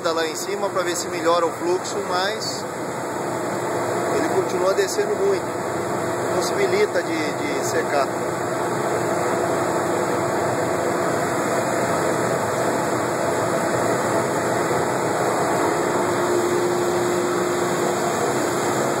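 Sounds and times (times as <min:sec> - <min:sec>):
faint steady hum: 0:00.0 - 0:19.0
ventilation fan air rushing: 0:00.0 - 0:19.0.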